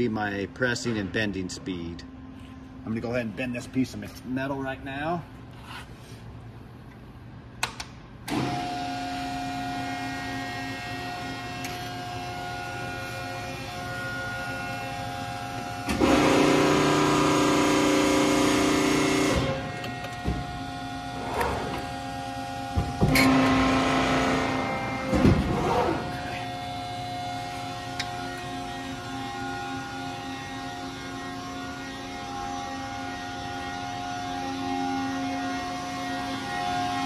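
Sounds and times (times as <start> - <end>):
hydraulic press humming whine: 6.4 - 37.0.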